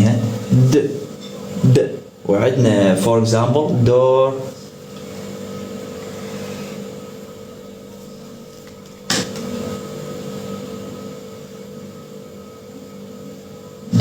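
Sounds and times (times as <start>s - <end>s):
appliance fan humming: 0.0s - 14.0s.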